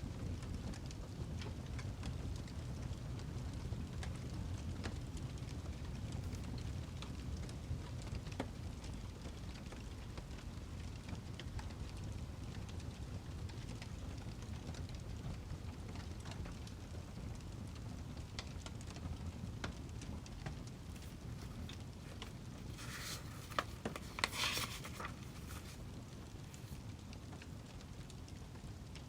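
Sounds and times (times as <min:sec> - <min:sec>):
fire low rumble: 0:00.0 - 0:29.0
wood fire crackling and popping: 0:00.1 - 0:29.0.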